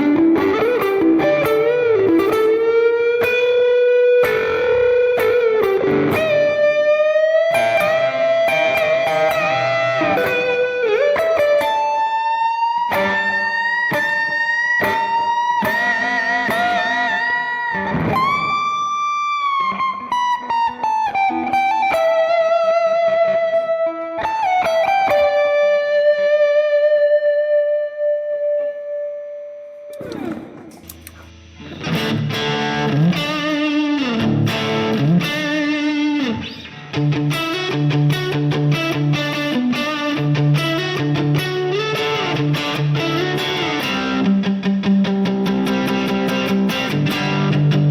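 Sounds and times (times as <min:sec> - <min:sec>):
electric guitar lead melody: 0:00.0 - 0:47.9.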